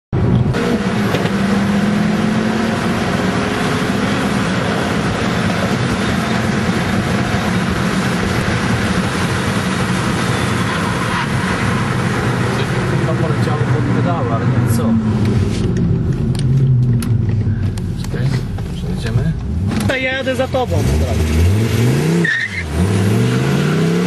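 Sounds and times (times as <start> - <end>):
road and wind noise: 0.1 - 24.0
car engine running hard: 0.2 - 24.0.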